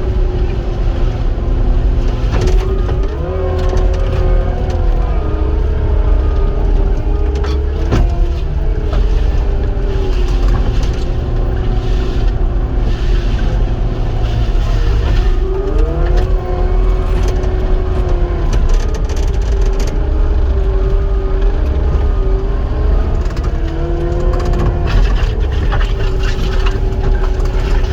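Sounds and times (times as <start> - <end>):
skid steer diesel engine whining: 0.0 - 27.9.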